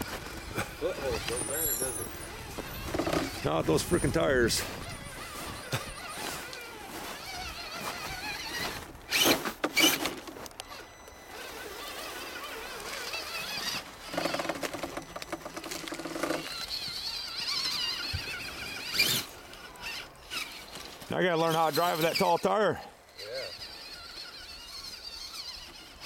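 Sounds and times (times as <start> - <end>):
low buzz: 0.0 - 21.1
rc car motor whining: 0.0 - 26.0.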